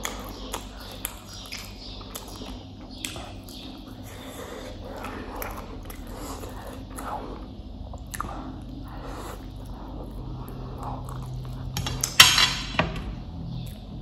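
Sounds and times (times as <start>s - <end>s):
chewing noodles: 0.0s - 11.8s.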